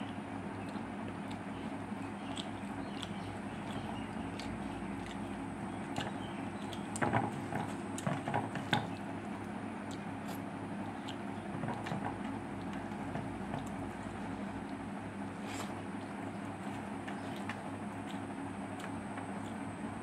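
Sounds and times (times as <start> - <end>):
chewing: 0.0 - 19.8
steady low hum: 0.0 - 20.0.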